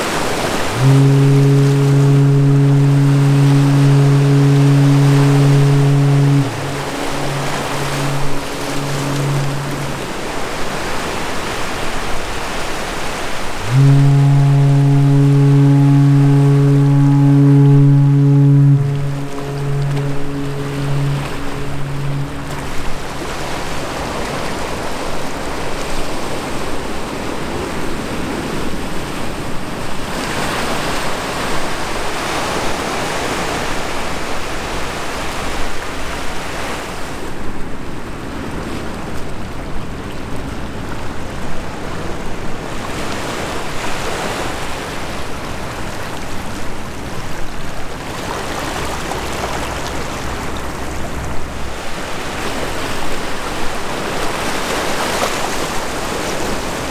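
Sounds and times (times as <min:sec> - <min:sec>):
sea water rushing: 0:00.0 - 0:56.9
wind: 0:00.0 - 0:56.9.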